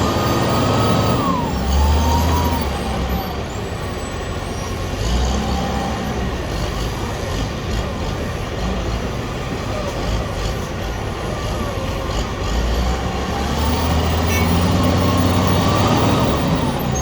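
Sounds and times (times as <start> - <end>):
heavy diesel engine revving: 0.0 - 17.0.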